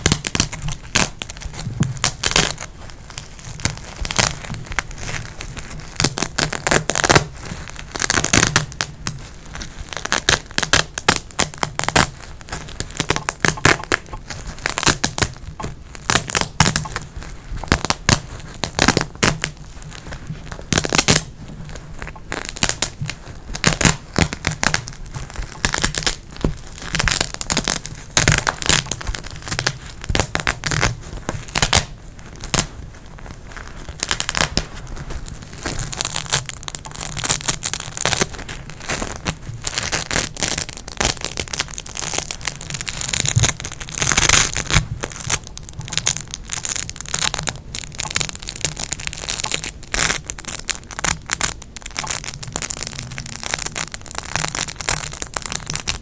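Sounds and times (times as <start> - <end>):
velcro ripping apart: 0.0 - 56.0.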